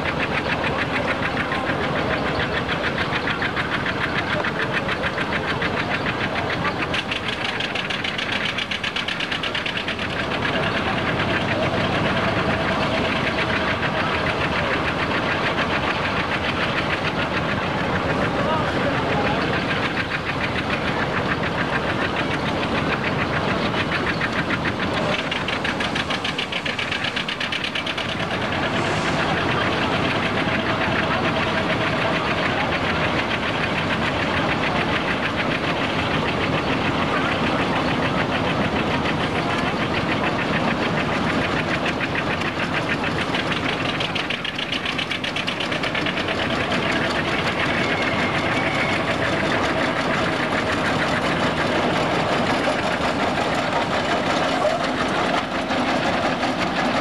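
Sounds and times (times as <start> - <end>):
locomotive engine running: 0.0 - 57.0.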